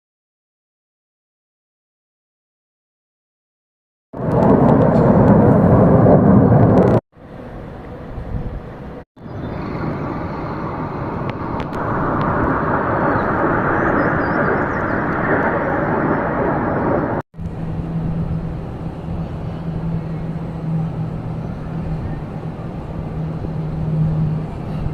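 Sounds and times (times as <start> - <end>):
fighter jet flying overhead: 4.2 - 24.9.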